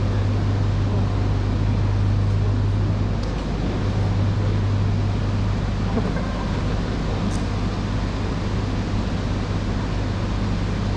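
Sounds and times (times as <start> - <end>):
steady low hum: 0.0 - 10.9
train platform ambience: 0.0 - 10.9.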